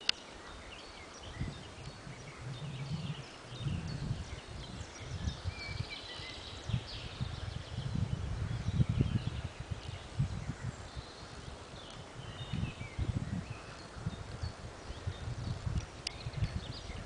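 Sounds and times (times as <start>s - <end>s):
forest birds chirping: 0.0s - 17.0s.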